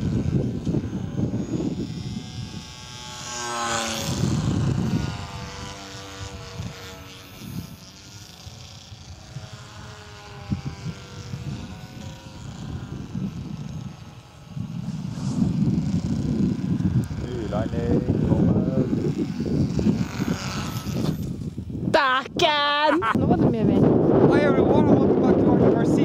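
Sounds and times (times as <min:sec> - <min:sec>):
model airplane motor whining: 0:00.0 - 0:26.0
wind rumble on microphone: 0:00.0 - 0:26.0.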